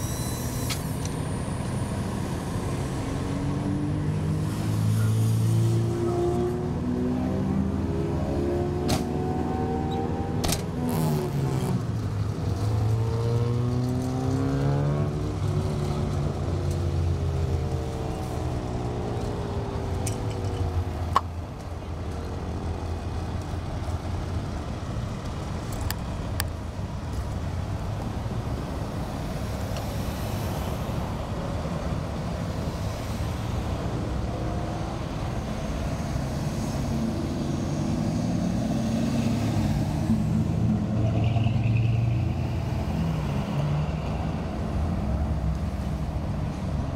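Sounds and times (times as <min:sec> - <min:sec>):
cars driving past: 0:00.9 - 0:46.9.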